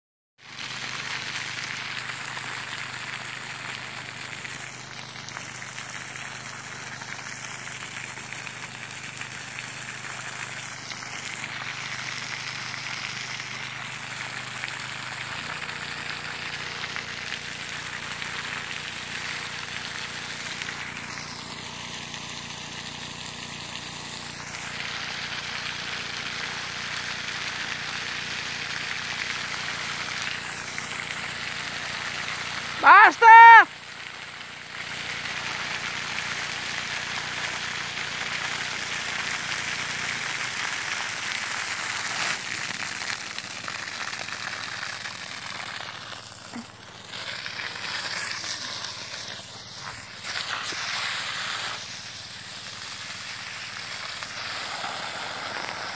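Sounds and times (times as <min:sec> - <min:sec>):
water jet hissing and spattering: 0:00.5 - 0:55.9.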